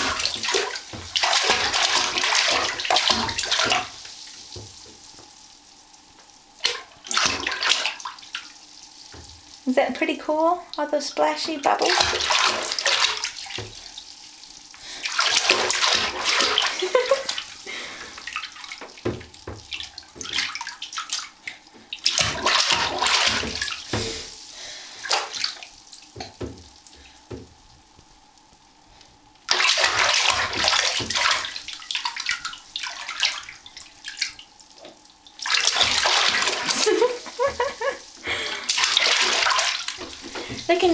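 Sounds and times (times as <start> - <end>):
baby splashing bath water: 0.0 - 28.3, 29.5 - 40.9.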